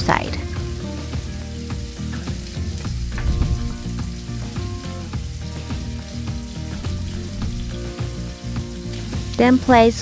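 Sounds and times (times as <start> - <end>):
background music: 0.0 - 10.0
fish sizzling in oil: 0.0 - 10.0.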